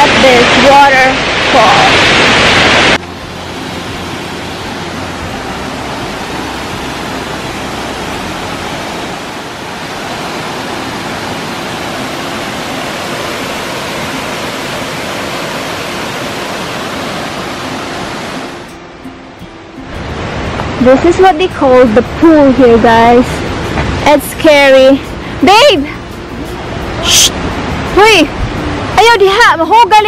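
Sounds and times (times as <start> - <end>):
waterfall rushing: 0.0 - 19.0, 19.6 - 30.0.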